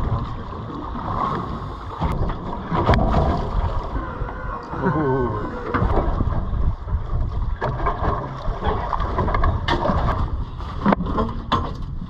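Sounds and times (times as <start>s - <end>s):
rumble of sea and boat: 0.0s - 12.0s
wind buffeting microphone: 0.0s - 12.0s.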